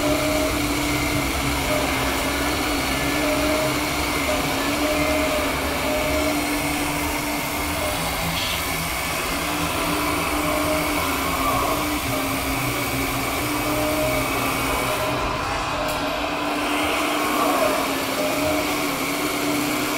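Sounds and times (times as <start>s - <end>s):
hydraulic pump whining: 0.0s - 19.9s.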